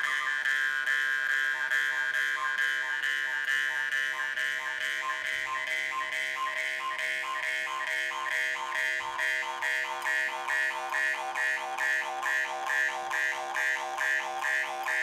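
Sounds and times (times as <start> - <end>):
jaw harp buzzing drone: 0.0 - 15.0.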